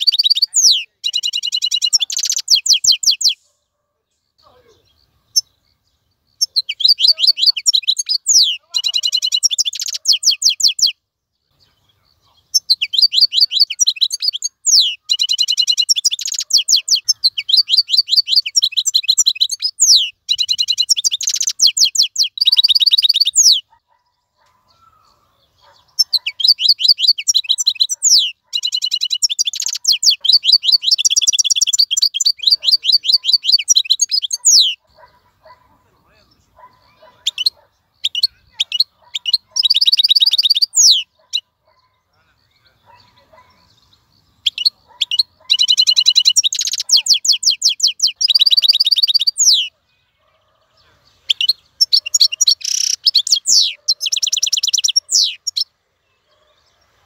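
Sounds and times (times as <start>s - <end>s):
goldfinch singing: 0.0s - 3.5s, 4.4s - 49.8s, 50.4s - 55.7s.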